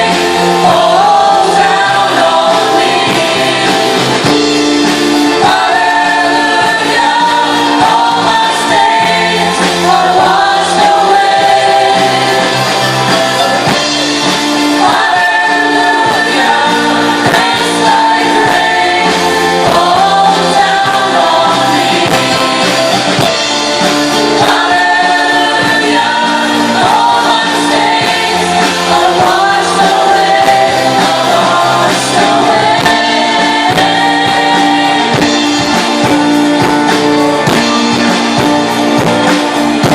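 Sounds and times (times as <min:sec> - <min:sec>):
voices singing gospel melody: 0:00.0 - 0:39.9
worship band playing: 0:00.0 - 0:39.9.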